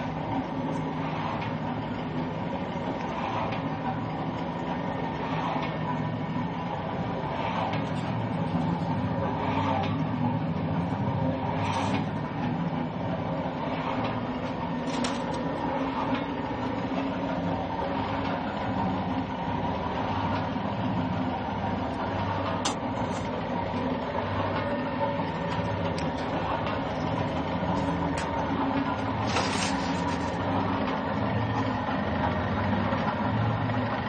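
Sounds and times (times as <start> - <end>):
pan mixer mechanical hum: 0.0 - 34.0.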